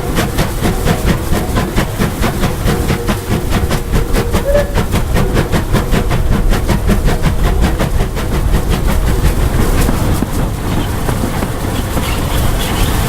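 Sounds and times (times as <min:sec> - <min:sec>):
steam locomotive exhaust beats: 0:00.0 - 0:13.0.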